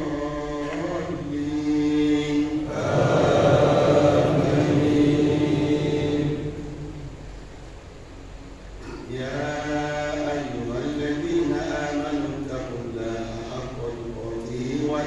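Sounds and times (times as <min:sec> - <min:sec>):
man chanting recitation: 0:00.0 - 0:07.0, 0:09.0 - 0:15.0.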